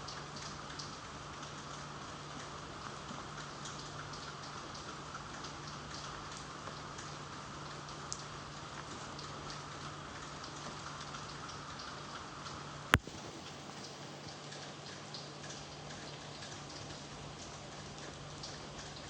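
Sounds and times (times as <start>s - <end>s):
gentle rain on a surface: 0.0s - 19.0s
sharp water drip: 0.0s - 19.0s.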